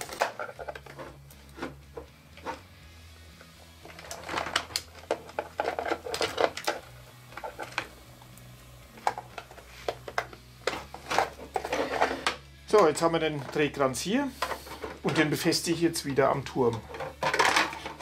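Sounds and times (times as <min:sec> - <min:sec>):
plastic parts and wires clicking: 0:00.0 - 0:02.6, 0:03.4 - 0:13.8, 0:14.4 - 0:18.0.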